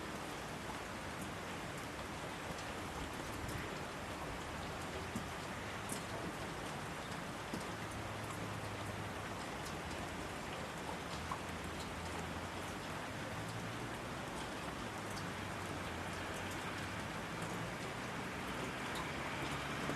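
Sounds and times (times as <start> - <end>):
raindrops pattering on surfaces: 0.0 - 19.9
steady rainfall hiss: 0.0 - 19.9.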